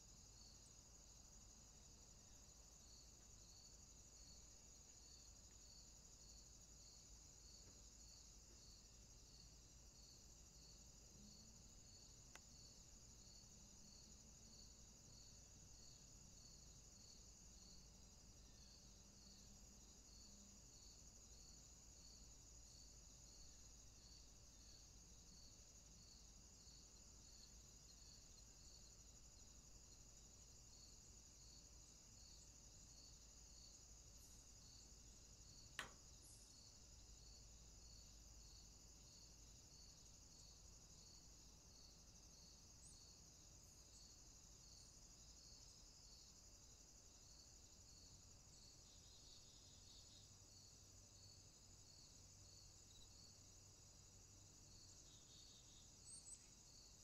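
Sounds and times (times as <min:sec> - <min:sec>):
high insect chirping: 0:00.0 - 0:57.0.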